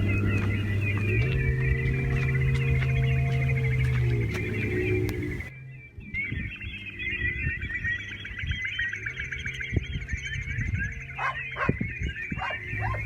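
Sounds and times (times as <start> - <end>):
finch song and twittering trills: 0.0 - 13.0.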